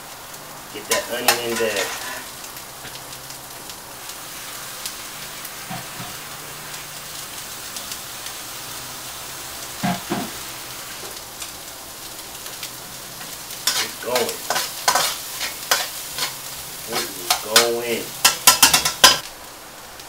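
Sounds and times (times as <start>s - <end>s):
onion sizzling in hot oil: 0.0s - 20.0s.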